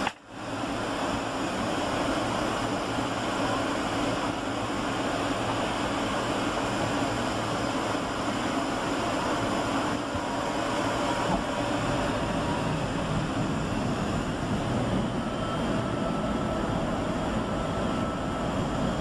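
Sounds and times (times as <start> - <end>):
airliner cabin airflow and engines: 0.0 - 19.0.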